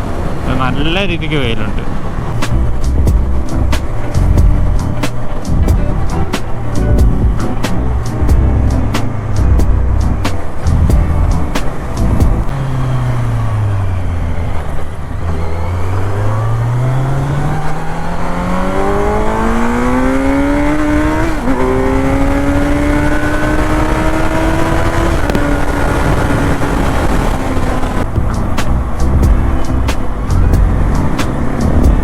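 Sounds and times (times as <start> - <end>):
motorcycle engine accelerating: 2.1 - 32.0.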